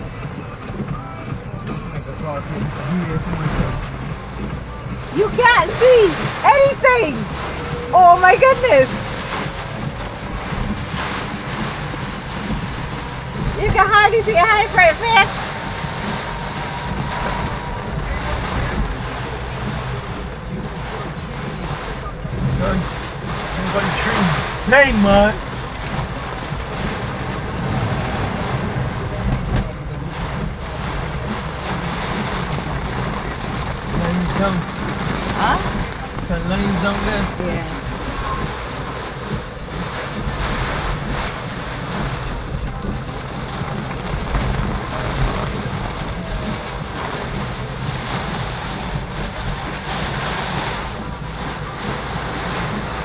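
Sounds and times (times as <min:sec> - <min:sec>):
engine and road rumble: 0:00.0 - 0:53.0
heavy rain on vehicle: 0:00.0 - 0:53.0.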